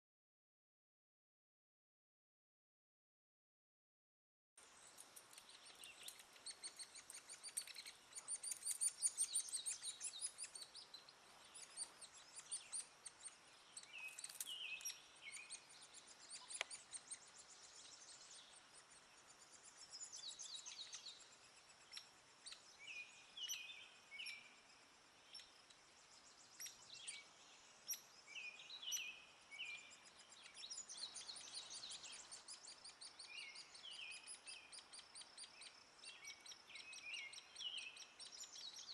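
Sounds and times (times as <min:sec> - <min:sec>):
woodpecker chicks begging chirps: 0:04.8 - 0:38.9.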